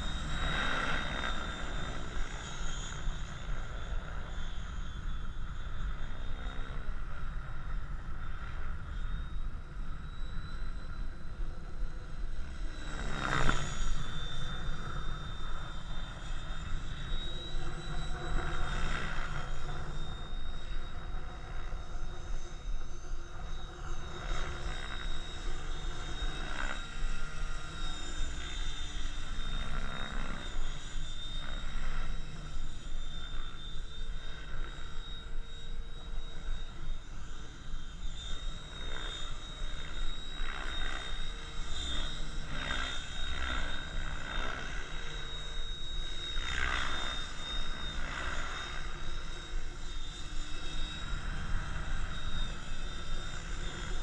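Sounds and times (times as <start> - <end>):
rc helicopter whine and rotor: 0.0 - 54.0.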